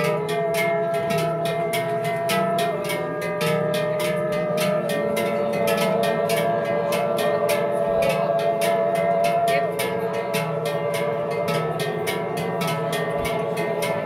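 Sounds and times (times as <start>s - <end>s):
large cowbells shaken: 0.0s - 14.0s
men's choir yodelling: 0.0s - 14.0s.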